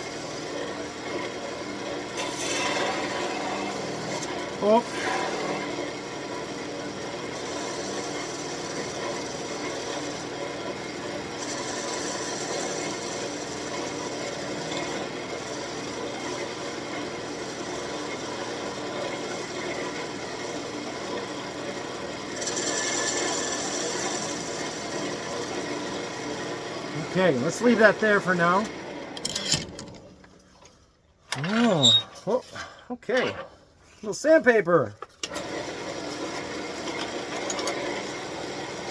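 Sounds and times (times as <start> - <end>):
gouge scraping spinning wood: 0.0 - 28.6, 35.6 - 38.9
lathe motor hum: 0.0 - 29.5, 35.2 - 38.9.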